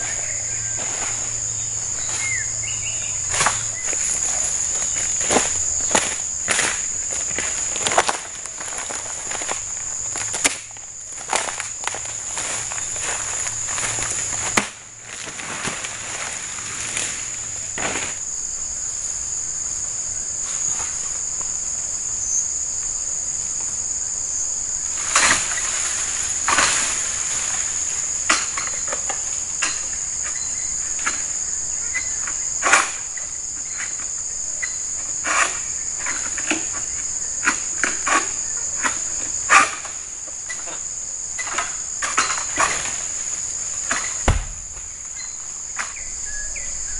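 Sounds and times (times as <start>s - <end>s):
cracks and rustles in palm crown: 0.0s - 18.5s, 24.9s - 46.2s
insects chorus: 0.0s - 46.9s.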